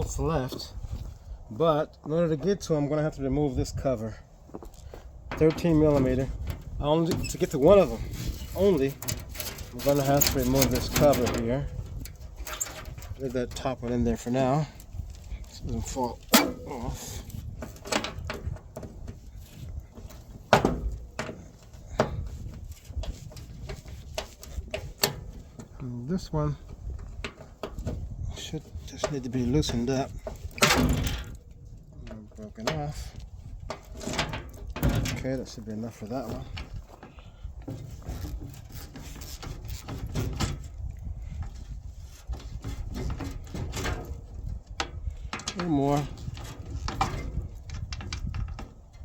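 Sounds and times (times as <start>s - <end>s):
hand tools clanking on metal: 5.3s - 25.8s, 26.5s - 31.4s, 32.1s - 40.7s, 42.2s - 49.0s.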